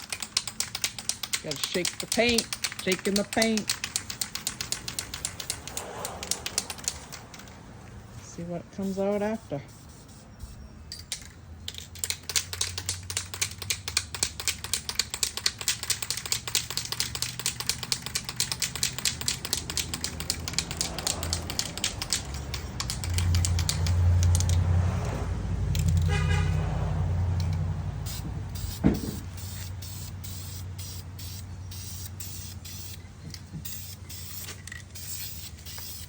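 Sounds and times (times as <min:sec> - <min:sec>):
spray can ball rattling: 0:00.0 - 0:08.1, 0:08.8 - 0:26.2, 0:27.4 - 0:36.0.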